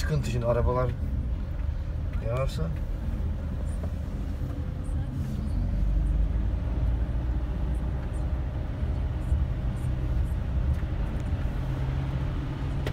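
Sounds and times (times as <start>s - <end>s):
vehicle engine and road noise: 0.0s - 12.9s.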